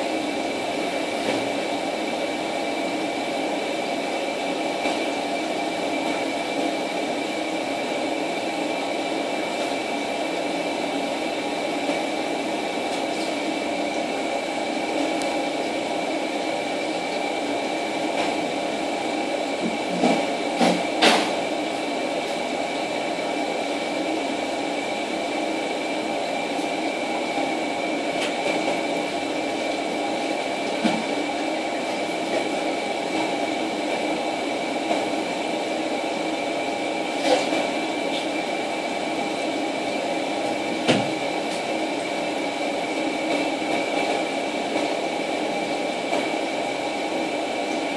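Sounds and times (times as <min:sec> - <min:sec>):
machine hum with high whine: 0:00.0 - 0:47.9.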